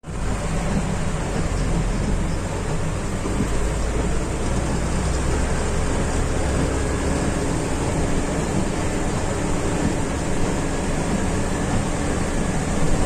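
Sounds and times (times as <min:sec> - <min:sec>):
deep engine rumble: 0:00.0 - 0:13.0
steady rain: 0:00.0 - 0:13.0.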